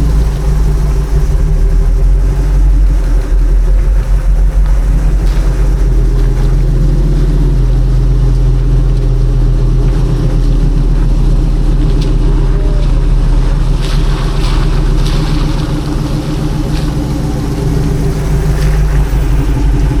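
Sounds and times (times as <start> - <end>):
pickup truck engine running: 0.0 - 20.0.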